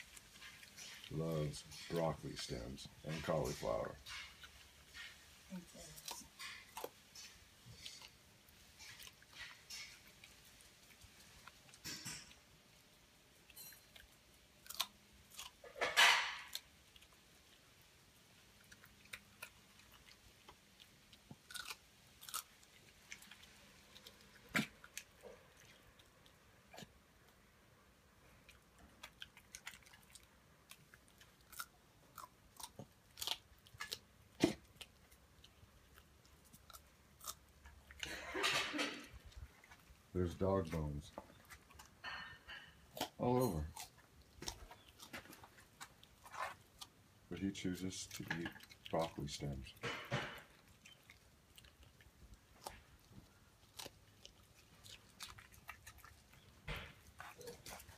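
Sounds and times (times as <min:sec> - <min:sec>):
dog crunching broccoli: 0:00.0 - 0:27.5, 0:28.2 - 0:57.9.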